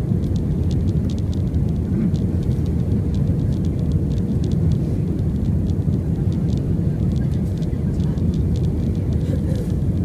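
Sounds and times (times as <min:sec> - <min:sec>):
airliner cabin rumble: 0:00.0 - 0:10.0
light ticks: 0:00.2 - 0:10.0.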